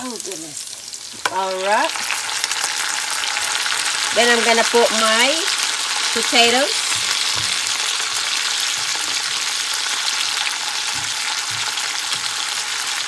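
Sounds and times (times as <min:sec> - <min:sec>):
oil sizzling in a skillet: 0:00.0 - 0:13.0.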